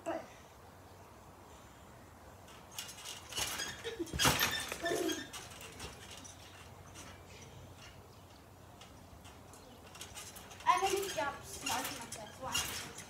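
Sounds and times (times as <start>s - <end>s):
trampoline thuds and spring creaks: 1.7s - 13.0s
short squeaks: 2.5s - 13.0s.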